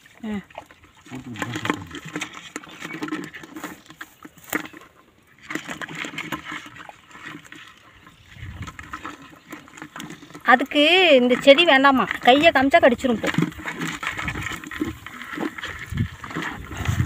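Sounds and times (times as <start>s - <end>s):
crabs scrabbling in plastic bucket: 0.0s - 17.0s.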